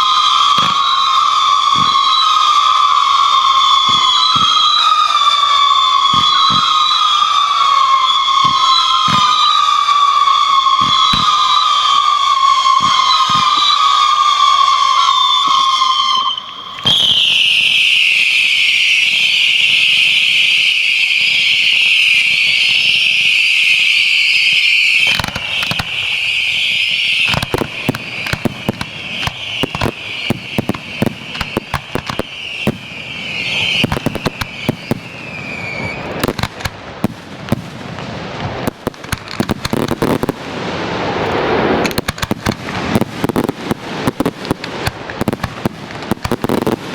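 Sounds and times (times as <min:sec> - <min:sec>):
firework bangs and crackling: 0:00.0 - 0:46.9
whistling fireworks: 0:00.0 - 0:46.9.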